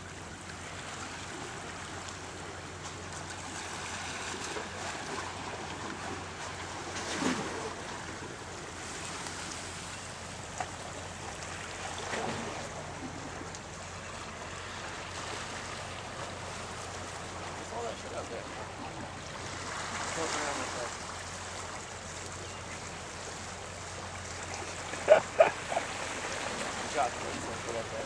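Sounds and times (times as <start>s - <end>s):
sea water washing against rocks: 0.0s - 13.9s, 14.6s - 22.3s, 22.9s - 28.0s.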